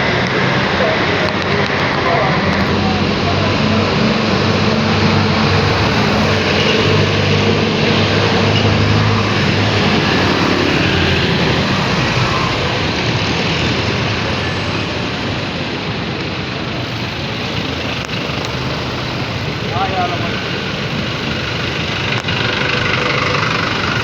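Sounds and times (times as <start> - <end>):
road and wind noise: 0.0 - 24.0
vehicle engine hum: 0.0 - 24.0.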